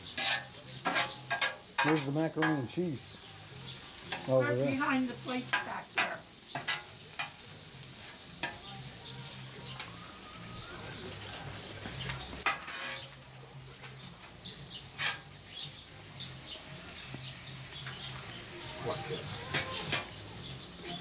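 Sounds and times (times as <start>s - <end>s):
meat sizzling as it fries: 0.0s - 21.0s.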